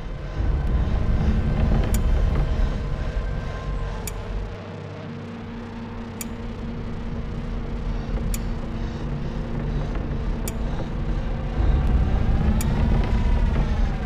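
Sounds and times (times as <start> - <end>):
low rumble: 0.0 - 14.0
steady hum: 0.0 - 14.0.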